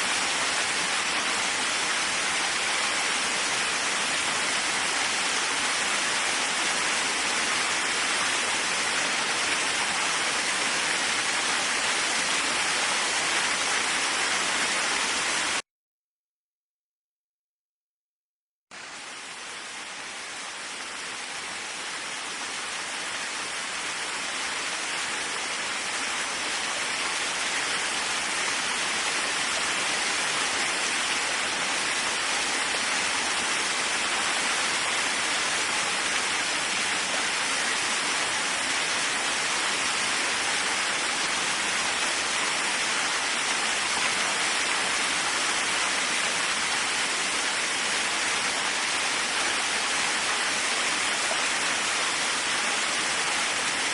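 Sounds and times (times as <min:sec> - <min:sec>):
waterfall rushing: 0:00.0 - 0:15.6, 0:18.8 - 0:53.9.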